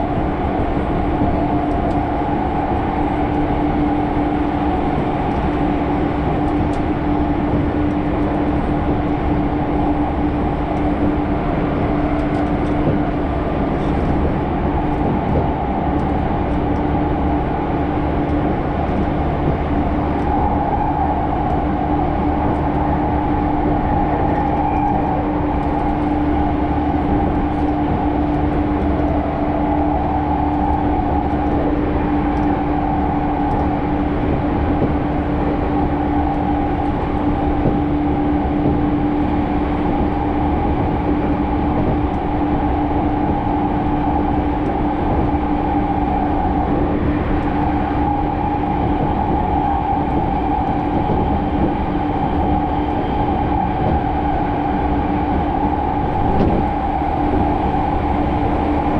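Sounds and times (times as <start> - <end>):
constant low hum: 0.0 - 58.9
train car running noise: 0.0 - 58.9.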